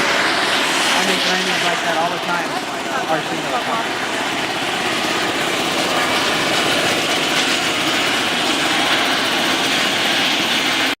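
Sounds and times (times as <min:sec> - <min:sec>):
helicopter turbine and rotor: 0:00.0 - 0:11.0.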